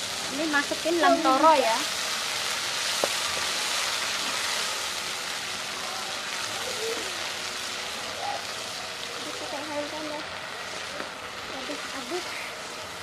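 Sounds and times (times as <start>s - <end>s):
seeds sizzling in oil: 0.0s - 13.0s.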